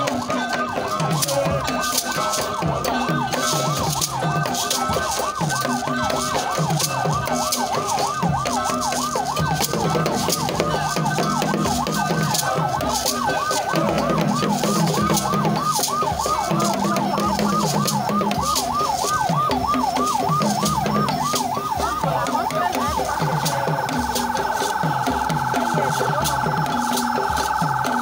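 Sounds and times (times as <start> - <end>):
siren yelping: 0.0 - 28.0.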